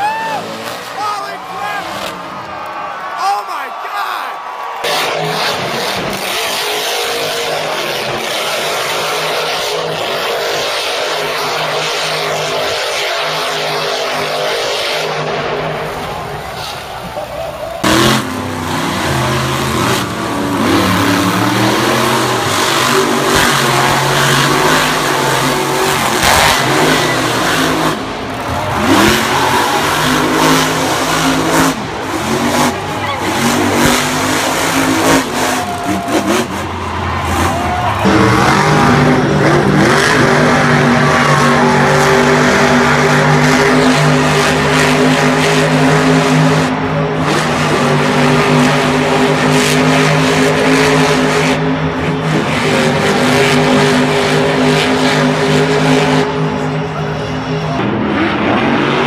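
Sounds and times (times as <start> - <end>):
truck engine revving: 0.0 - 3.6, 4.6 - 59.0.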